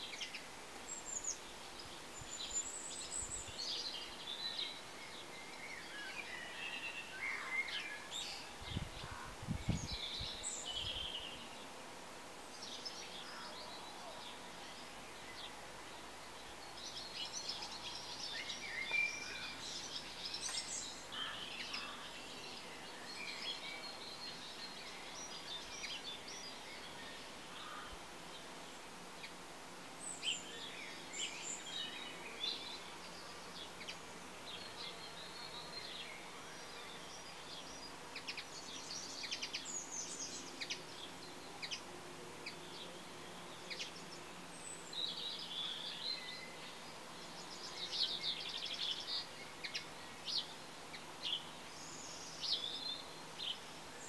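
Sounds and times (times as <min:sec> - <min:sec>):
birds chirping: 0:00.0 - 0:54.0
steady low hiss: 0:00.0 - 0:54.0.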